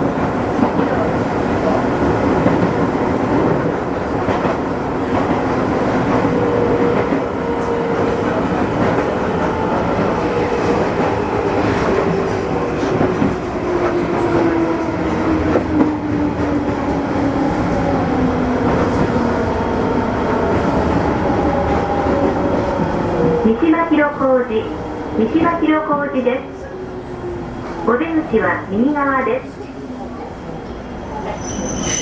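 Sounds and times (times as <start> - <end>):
wheels rumbling on rail: 0.0 - 32.0.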